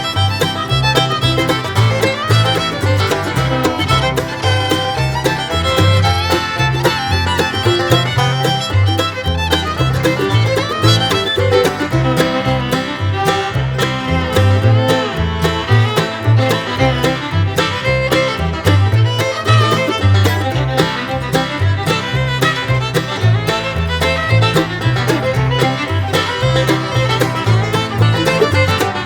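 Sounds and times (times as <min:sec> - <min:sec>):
upbeat bluegrass music: 0:00.0 - 0:29.0.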